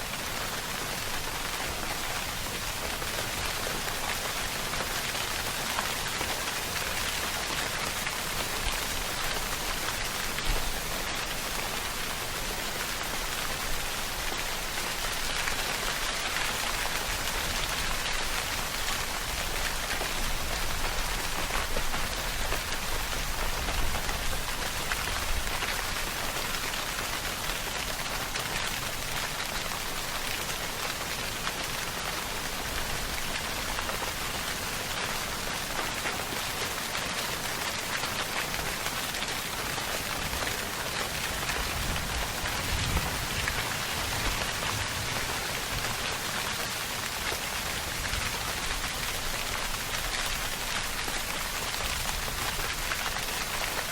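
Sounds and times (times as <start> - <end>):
rain drops falling on a surface: 0.0 - 53.9.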